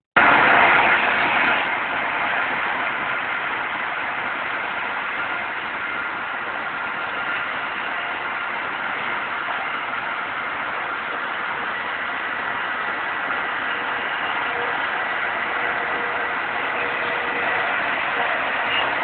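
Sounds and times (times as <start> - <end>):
faint steady tones: 0.2 - 19.0
standing train humming and hissing: 0.2 - 19.0.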